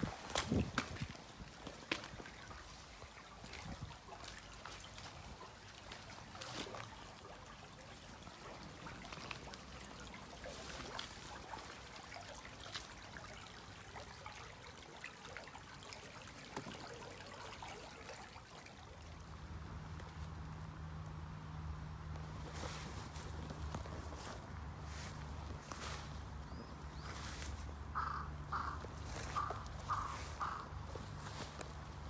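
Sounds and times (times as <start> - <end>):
stream trickling over stones: 0.0 - 32.0.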